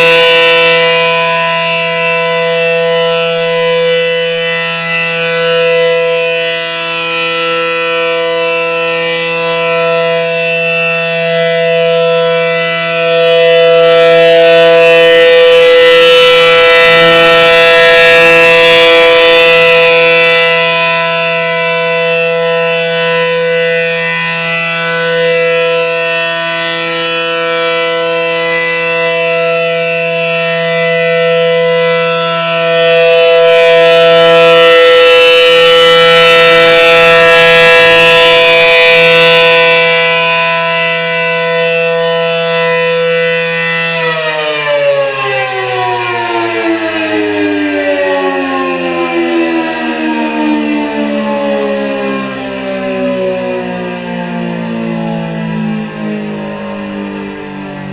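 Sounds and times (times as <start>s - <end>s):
warning siren steady tone: 0.0s - 57.9s.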